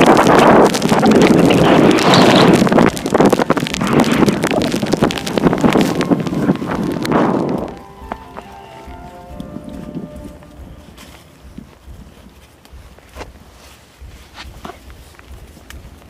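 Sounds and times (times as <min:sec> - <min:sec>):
horse hoofbeats: 0:00.0 - 0:16.0
microphone handling rumble: 0:00.0 - 0:16.0
wind buffeting microphone: 0:00.0 - 0:16.0.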